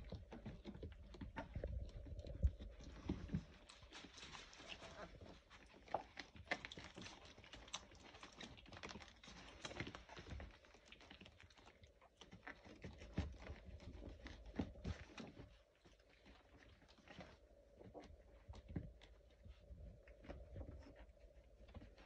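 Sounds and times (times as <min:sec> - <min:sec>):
puppy claws scrabbling: 0:00.0 - 0:22.0.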